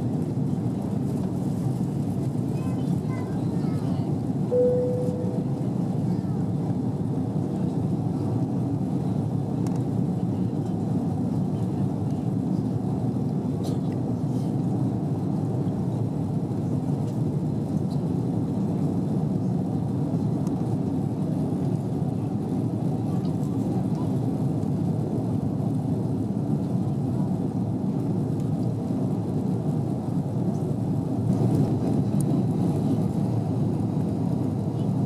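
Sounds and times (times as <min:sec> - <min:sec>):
jet engine cabin roar: 0:00.0 - 0:35.0.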